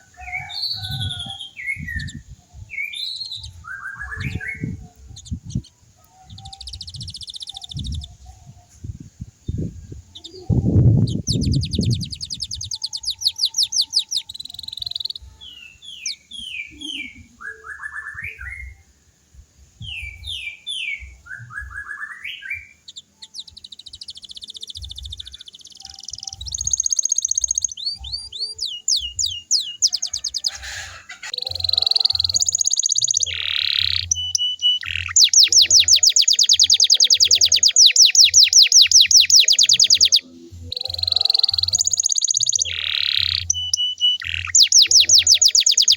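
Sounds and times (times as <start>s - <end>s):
canary singing: 0.0s - 19.0s, 19.8s - 45.9s.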